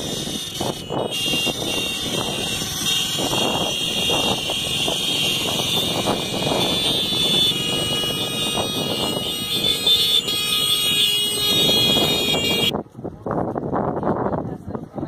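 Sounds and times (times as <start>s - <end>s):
motorcycles riding past: 0.0s - 12.7s.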